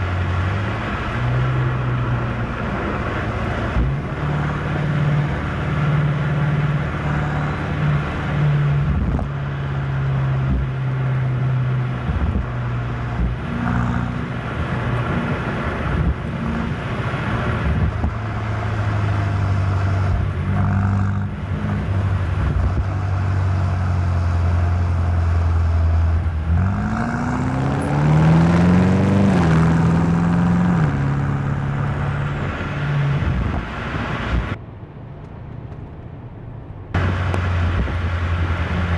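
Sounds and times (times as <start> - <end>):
car engine running and accelerating: 0.0 - 38.9.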